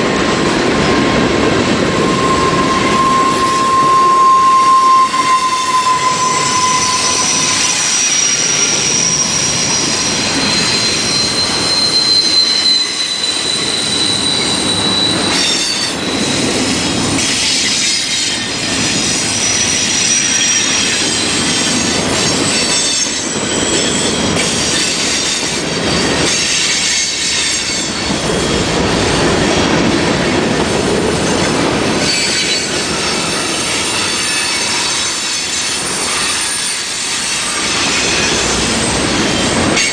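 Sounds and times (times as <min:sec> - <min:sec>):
rumble and rattle of train cars: 0:00.0 - 0:39.9
train wheels squealing on rail: 0:01.5 - 0:39.9.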